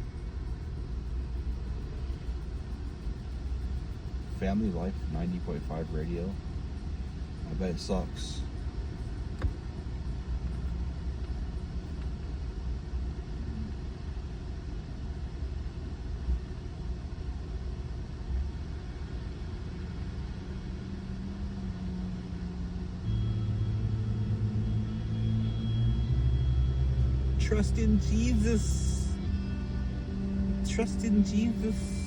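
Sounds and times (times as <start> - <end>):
low hum: 0.0 - 32.0
road and engine rumble in car: 0.0 - 32.0.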